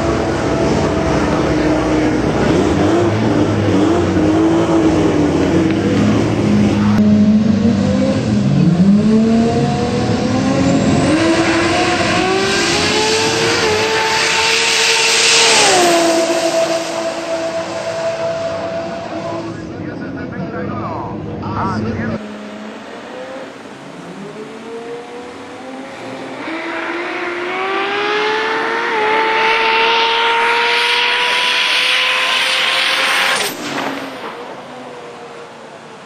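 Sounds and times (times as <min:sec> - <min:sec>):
race car engine revving: 0:00.0 - 0:36.0.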